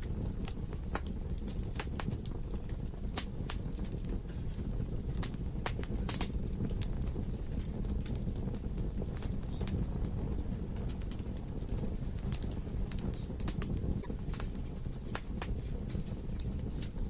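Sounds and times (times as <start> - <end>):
low rush of flames: 0.0 - 17.0
wood fire crackling and popping: 0.0 - 17.0.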